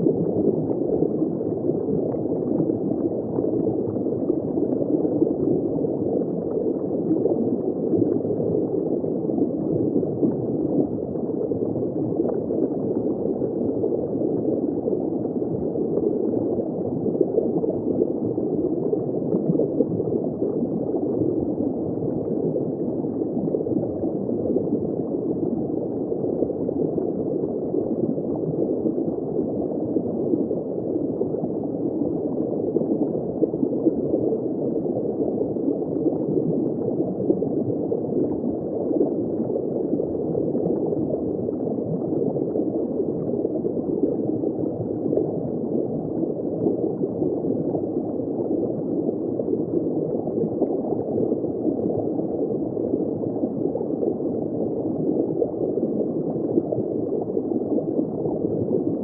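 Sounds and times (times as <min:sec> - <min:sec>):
muffled underwater bubbling: 0:00.0 - 0:59.0.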